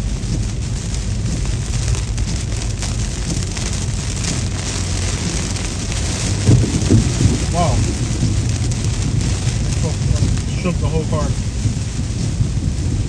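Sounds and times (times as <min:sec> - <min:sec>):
low thumps: 0:00.0 - 0:13.0
rain drumming on a car: 0:00.0 - 0:13.0
steady low rumble: 0:00.0 - 0:13.0.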